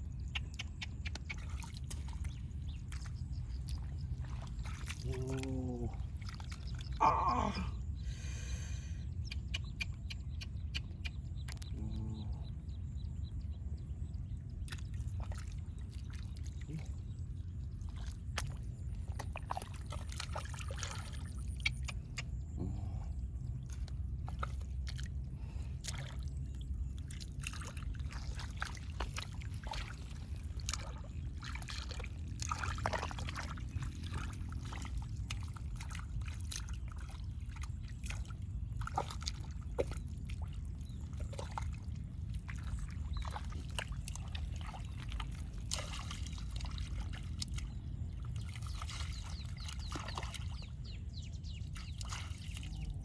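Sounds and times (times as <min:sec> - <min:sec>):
water sloshing and splashing: 0:00.0 - 0:08.8, 0:14.4 - 0:53.0
low rumble: 0:00.0 - 0:53.0.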